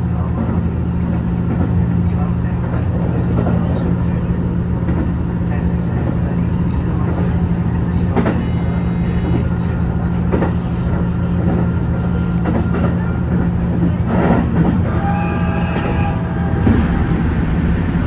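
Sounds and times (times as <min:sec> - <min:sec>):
train interior hum: 0:00.0 - 0:18.0.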